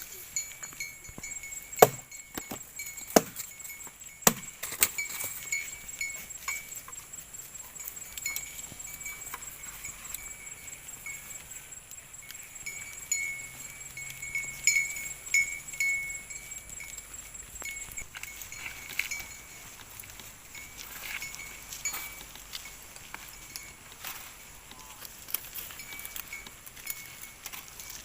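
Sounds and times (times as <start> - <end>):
cattle bells clinking: 0.0 - 28.0.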